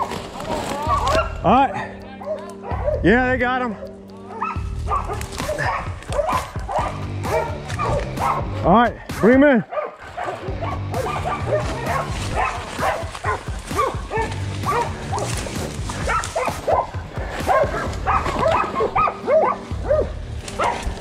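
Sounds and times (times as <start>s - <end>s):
dogs barking and baying: 0.0s - 21.0s.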